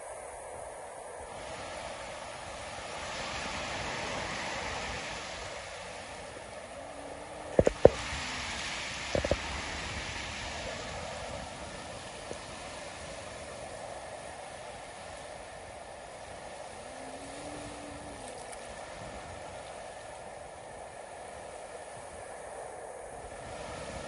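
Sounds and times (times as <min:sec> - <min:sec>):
surf breaking on rocky shore: 0:01.3 - 0:24.0.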